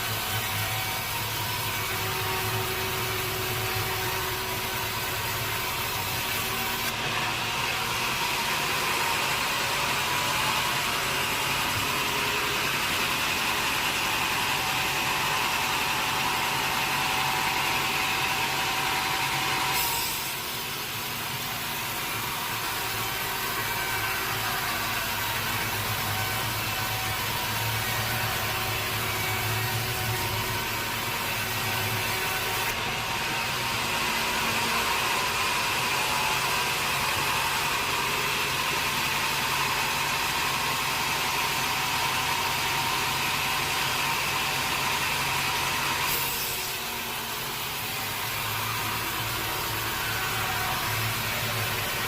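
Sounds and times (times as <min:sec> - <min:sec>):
saw cutting through log: 0:00.0 - 0:52.0
sawmill saw running: 0:00.0 - 0:52.0.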